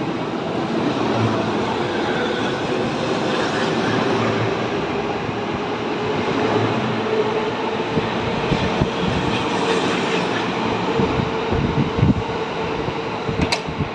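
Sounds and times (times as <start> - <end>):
electric train rolling past: 0.0 - 13.9
train hum: 0.0 - 13.9.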